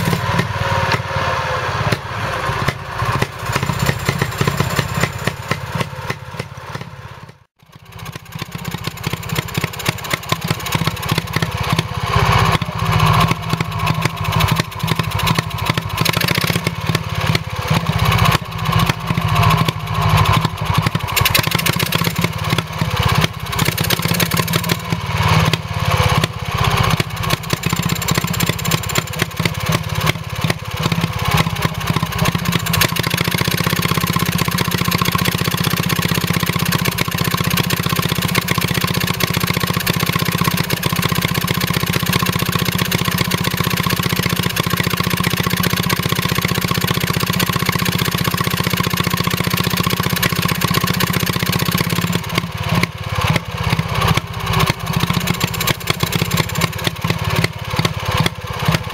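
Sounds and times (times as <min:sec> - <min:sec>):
stationary engine running: 0:00.0 - 0:58.9.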